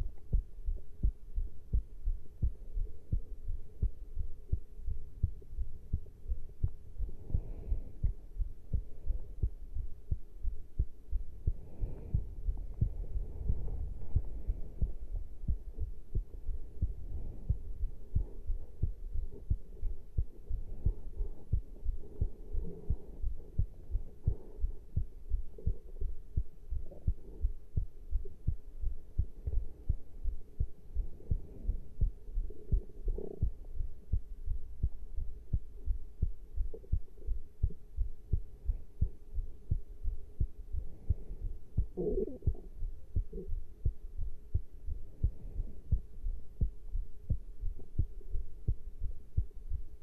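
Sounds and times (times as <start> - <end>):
heartbeat thumps: 0.0 - 50.0.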